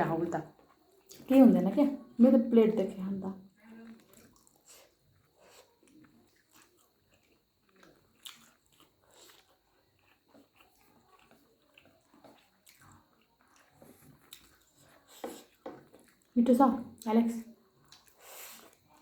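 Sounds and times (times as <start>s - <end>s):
people chewing: 0.1s - 1.4s, 3.5s - 19.0s.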